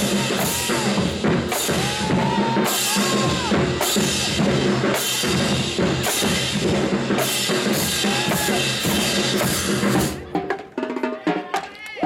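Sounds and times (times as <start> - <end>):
marching band playing: 0.0 - 11.8
pounding drums: 0.0 - 12.0.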